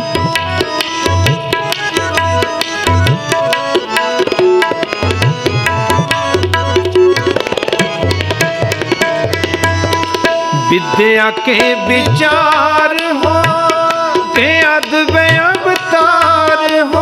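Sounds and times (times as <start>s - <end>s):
tabla drum strokes: 0.0s - 16.8s
harmoniums playing melody: 0.0s - 17.0s.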